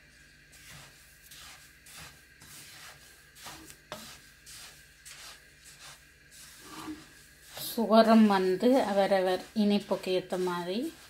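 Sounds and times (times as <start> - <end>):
seeds rustling in a pan: 0.0 - 11.0.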